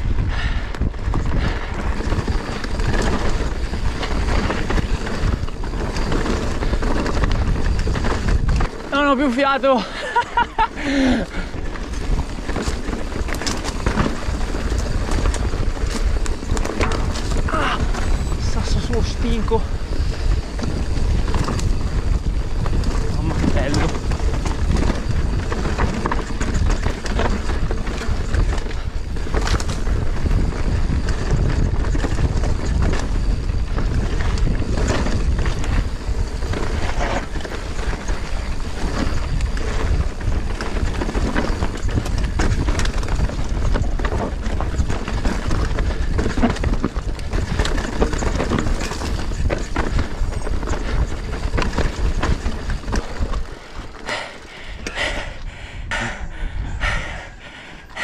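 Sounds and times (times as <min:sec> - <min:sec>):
bike rattling and knocking: 0:00.0 - 0:58.0
wind buffeting microphone: 0:00.0 - 0:58.0
tyres rolling over dirt and stones: 0:00.8 - 0:58.0.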